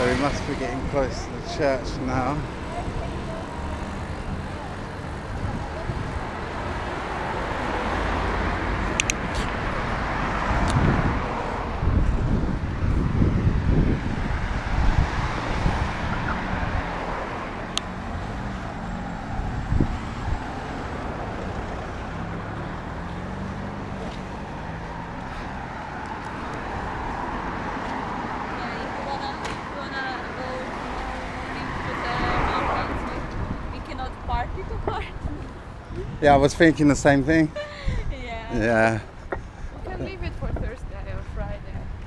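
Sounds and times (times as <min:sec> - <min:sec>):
cars driving past: 0:00.0 - 0:42.0.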